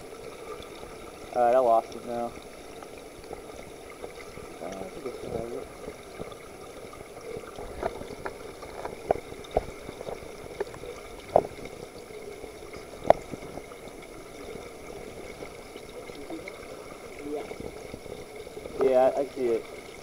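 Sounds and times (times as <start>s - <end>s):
underwater hiss and hum: 0.0s - 20.0s.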